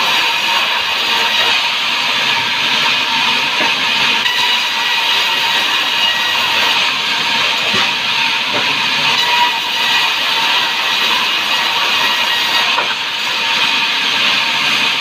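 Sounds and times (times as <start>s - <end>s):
saw cutting through timber: 0.0s - 15.0s.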